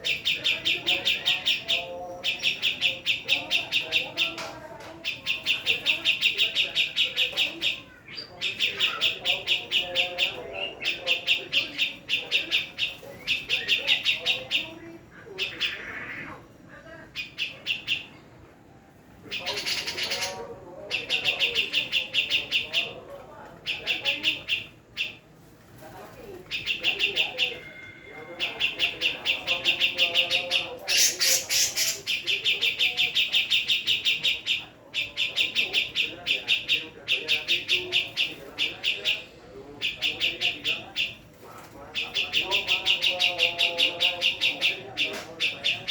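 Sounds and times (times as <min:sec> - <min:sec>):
bird chirping: 0:00.0 - 0:16.4, 0:17.1 - 0:18.4, 0:19.2 - 0:25.3, 0:26.3 - 0:45.9.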